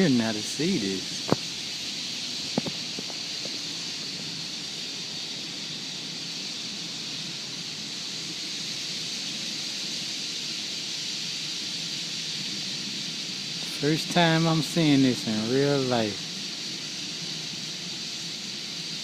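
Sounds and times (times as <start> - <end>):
flock of birds chattering: 0.0 - 19.0.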